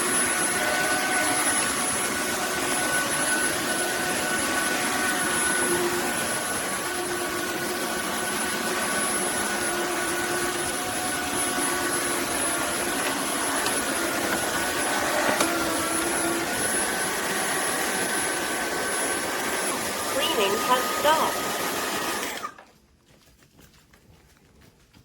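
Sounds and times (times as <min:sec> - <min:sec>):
vacuum mop motor whine: 0:00.0 - 0:22.7.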